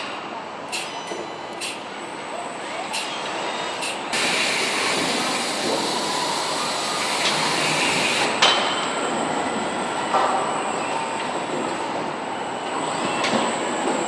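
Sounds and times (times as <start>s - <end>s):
factory machinery din: 0.0s - 14.0s.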